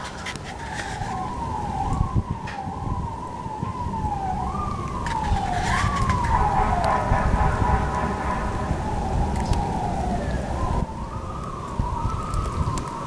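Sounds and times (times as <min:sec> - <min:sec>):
emergency siren cycling: 0:00.0 - 0:13.0
wind rumble on microphone: 0:00.0 - 0:13.0.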